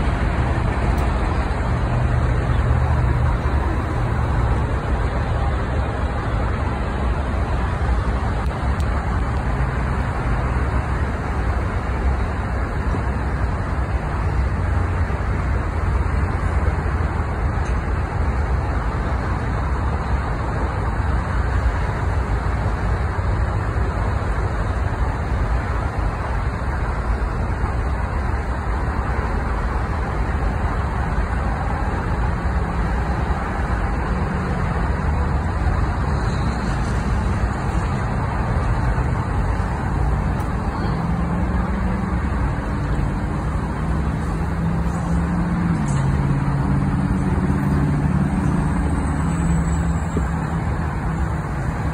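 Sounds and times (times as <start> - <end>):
freight train rumbling on rails: 0.0 - 51.9.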